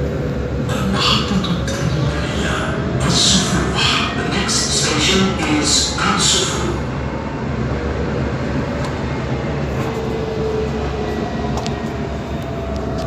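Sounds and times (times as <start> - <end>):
tram cabin rumble: 0.0 - 13.0.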